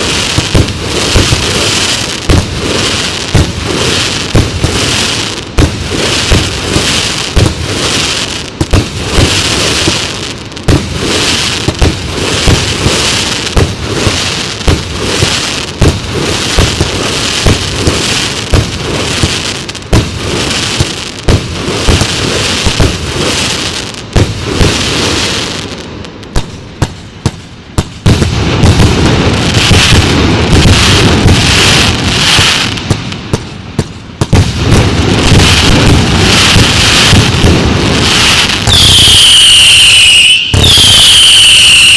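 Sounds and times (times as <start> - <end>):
fireworks bangs: 0.0 - 41.9
fireworks crackling hiss: 0.0 - 41.9.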